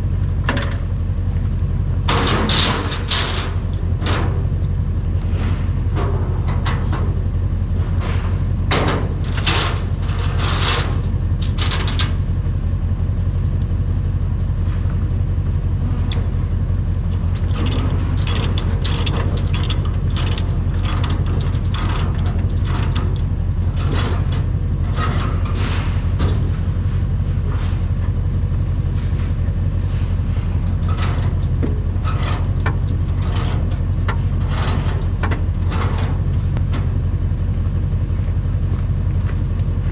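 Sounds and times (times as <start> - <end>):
heavy diesel engine running: 0.0 - 39.9
metallic clanks and rattles: 0.2 - 1.0, 2.0 - 12.4, 16.0 - 37.5.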